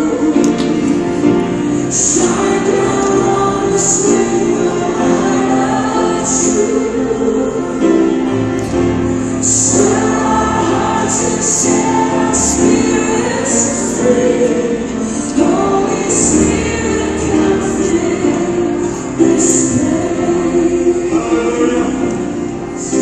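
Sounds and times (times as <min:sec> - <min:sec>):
choir singing held notes: 0:00.0 - 0:23.0
instrumental accompaniment: 0:00.0 - 0:23.0.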